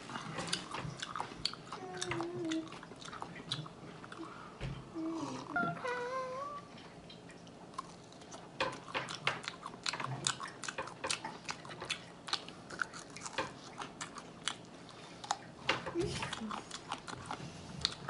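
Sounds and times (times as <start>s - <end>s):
chewing and biting chicken: 0.0s - 4.4s, 7.4s - 18.0s.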